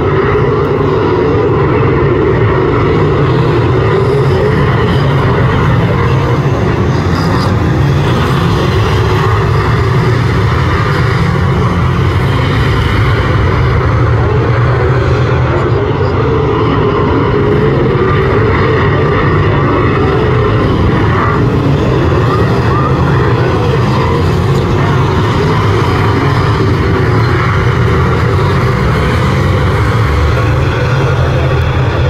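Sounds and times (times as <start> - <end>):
racing car engines at full throttle: 0.0 - 32.0.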